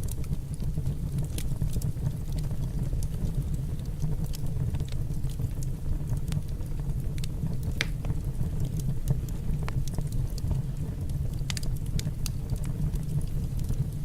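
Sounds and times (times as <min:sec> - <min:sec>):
fire low rumble: 0:00.0 - 0:14.0
wood fire crackling and popping: 0:00.0 - 0:14.0.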